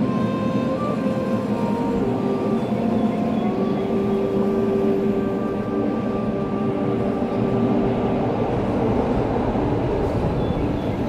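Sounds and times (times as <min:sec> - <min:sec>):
held humming tones: 0:00.0 - 0:11.0
train rumbling on track: 0:00.0 - 0:11.0.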